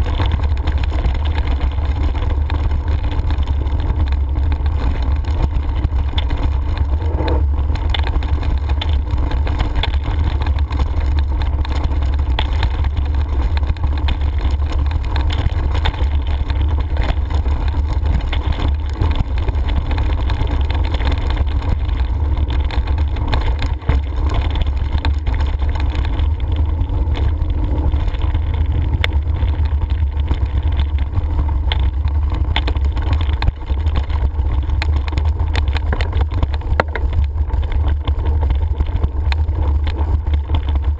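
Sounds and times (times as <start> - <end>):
bike tyres crunching on gravel: 0.0 - 40.9
wind rumble on microphone: 0.0 - 40.9.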